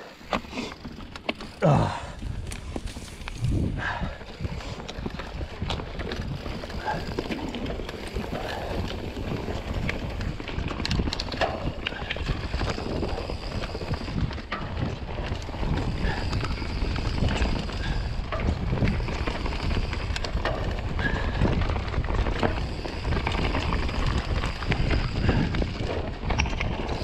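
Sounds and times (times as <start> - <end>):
bike clicking and rattling: 0.0 - 27.0
bike tyres rumbling on dirt: 0.0 - 27.0
wind on microphone: 1.8 - 27.0.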